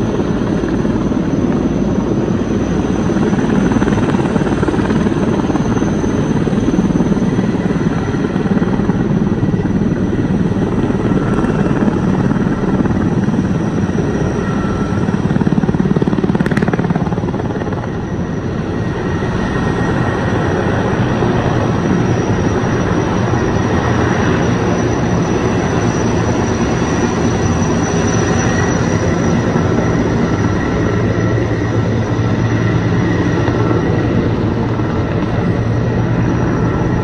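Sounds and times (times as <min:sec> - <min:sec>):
helicopter rotor chopping: 0:00.0 - 0:37.0.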